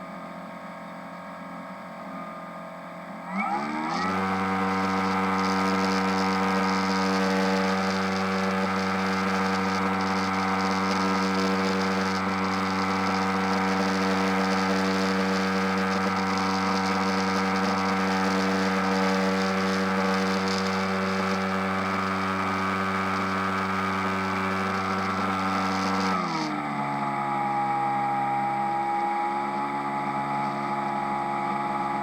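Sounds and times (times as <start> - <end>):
model airplane motor droning: 3.3 - 32.0.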